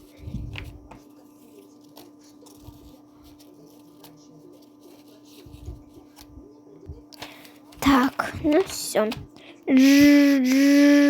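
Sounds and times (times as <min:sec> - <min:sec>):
paper figures clicking and tapping: 0:00.0 - 0:06.3, 0:07.1 - 0:10.1.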